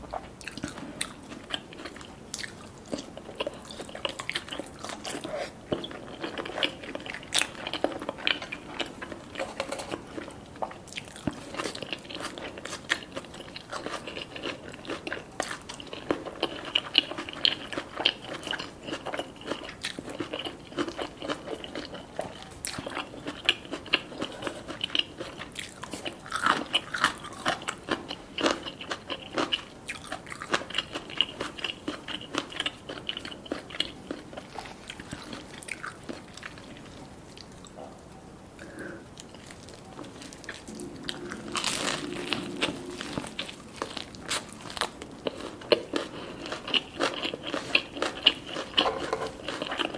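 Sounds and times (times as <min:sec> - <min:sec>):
crunchy food chewing: 0:00.0 - 0:38.0, 0:38.6 - 0:49.9.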